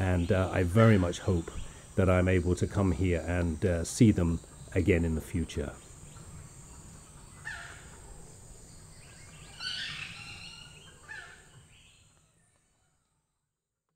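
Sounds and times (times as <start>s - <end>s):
bird calls: 0.0s - 13.0s.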